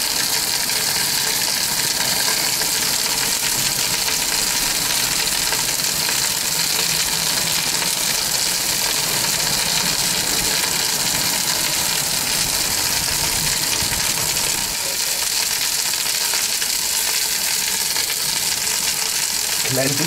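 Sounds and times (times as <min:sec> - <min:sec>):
steak sizzling on a grill: 0:00.0 - 0:20.0.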